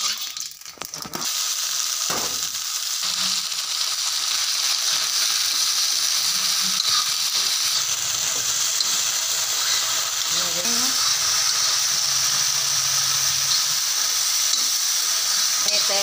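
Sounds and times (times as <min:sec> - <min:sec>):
chickpeas sizzling in oil: 0:00.0 - 0:16.0.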